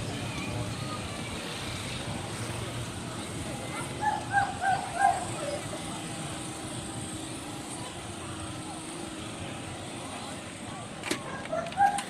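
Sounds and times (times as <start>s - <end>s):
distant voices: 0.0s - 12.0s
engine and traffic hum: 0.0s - 12.0s.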